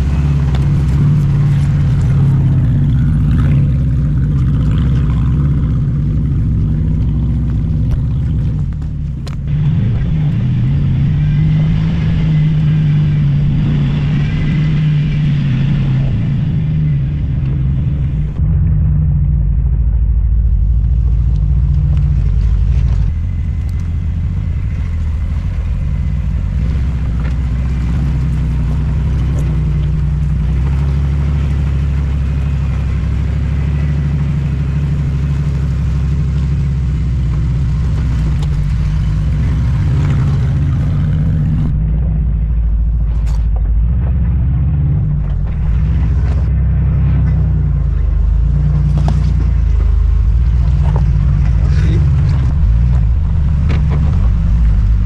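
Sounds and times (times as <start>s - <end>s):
van engine running low: 0.0s - 55.0s.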